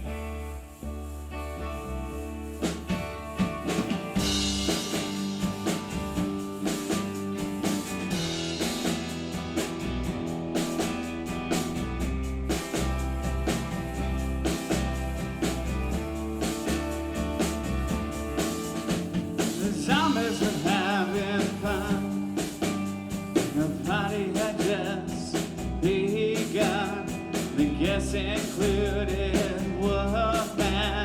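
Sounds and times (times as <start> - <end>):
rock band playing: 0.0 - 31.0.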